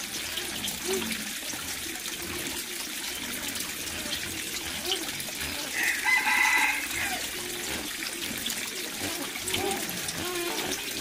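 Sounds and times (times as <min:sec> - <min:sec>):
water trickling into tank: 0:00.0 - 0:11.0.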